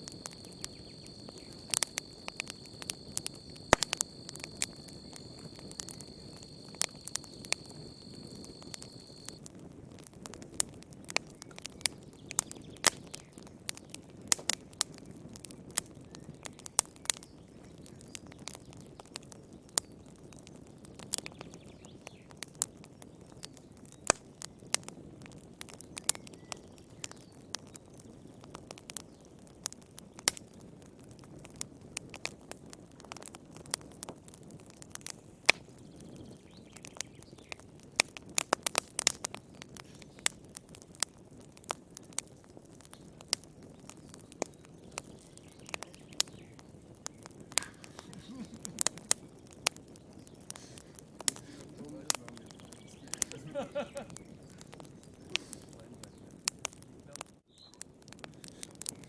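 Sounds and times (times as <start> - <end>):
campfire crackling and popping: 0.0 - 59.0
fire burning hiss: 0.0 - 59.0.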